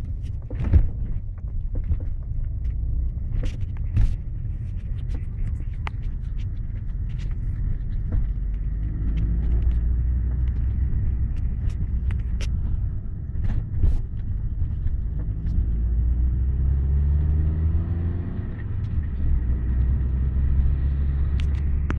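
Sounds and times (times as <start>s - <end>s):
car engine running: 0.0s - 21.9s.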